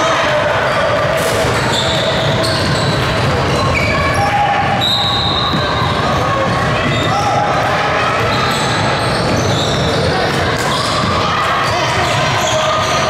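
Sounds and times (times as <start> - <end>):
din of play and voices: 0.0 - 13.0
sneakers squeaking on court: 0.7 - 7.4, 8.1 - 13.0.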